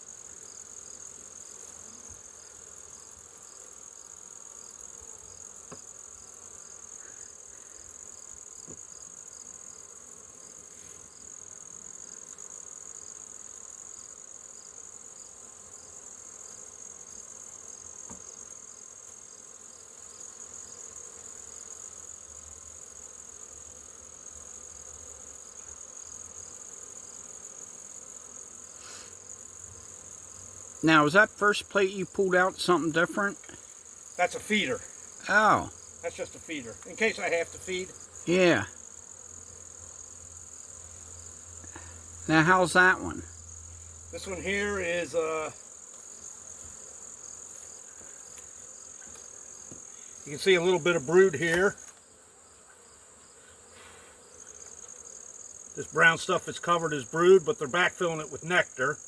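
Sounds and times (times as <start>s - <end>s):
high-pitched insect trill: 0.0s - 53.6s
honey bees buzzing: 0.0s - 59.0s.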